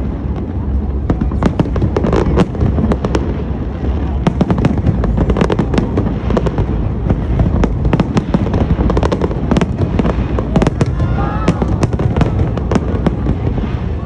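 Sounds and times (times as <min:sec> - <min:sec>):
continuous low rumble: 0:00.0 - 0:14.0
fireworks bangs and crackles: 0:00.0 - 0:14.0.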